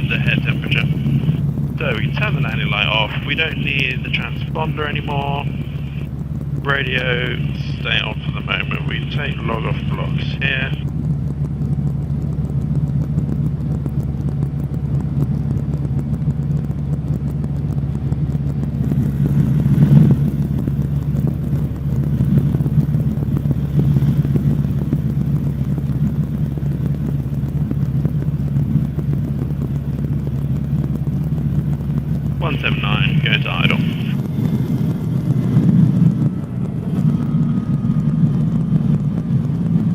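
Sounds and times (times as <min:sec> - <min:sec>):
helicopter engine and rotor running: 0:00.0 - 0:39.9.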